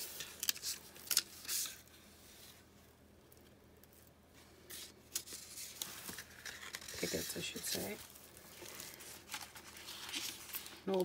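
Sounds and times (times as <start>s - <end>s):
paper rustling: 0.0s - 2.6s, 4.4s - 11.0s.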